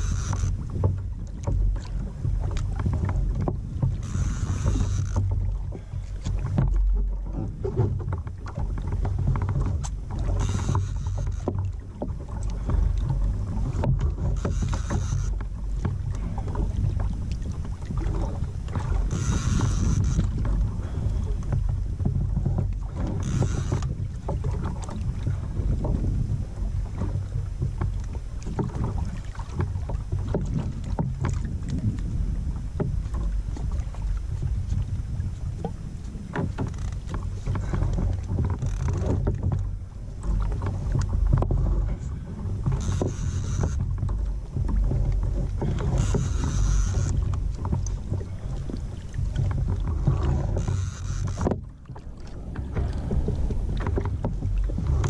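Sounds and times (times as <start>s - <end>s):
water lapping against kayak hull: 0.0s - 55.0s
wind rumbling on microphone: 0.0s - 55.0s.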